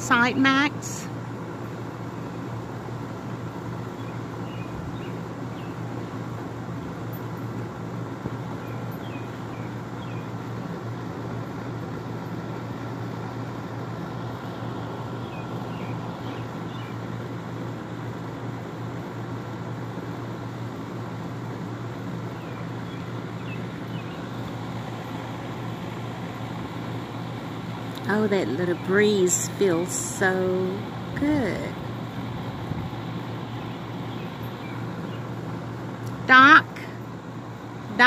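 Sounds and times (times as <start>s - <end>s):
faint steady whine: 0.0s - 38.0s
low hum and rushing noise: 0.0s - 38.0s.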